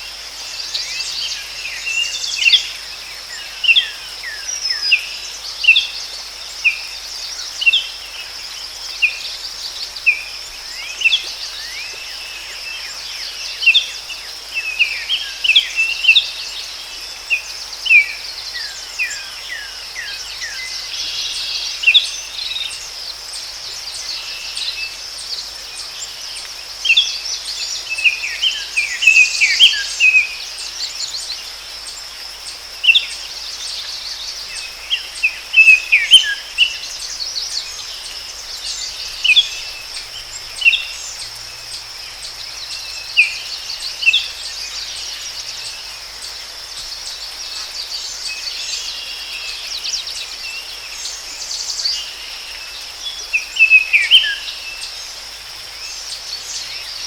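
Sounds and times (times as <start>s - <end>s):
insects chorus: 0.0s - 57.0s
songbirds chirping: 0.0s - 57.0s.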